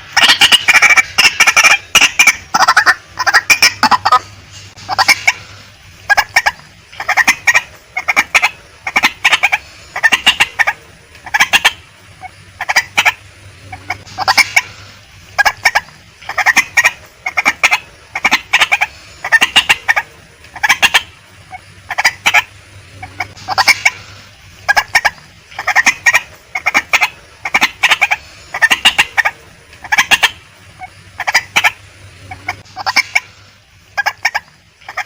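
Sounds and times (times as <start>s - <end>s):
waterhen clucking calls: 0.0s - 35.0s.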